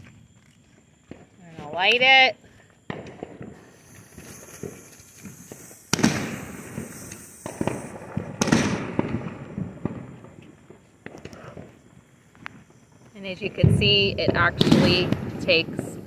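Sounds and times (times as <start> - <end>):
firework hissing and crackling: 0.0 - 16.0
firework sharp cracks: 2.8 - 16.0.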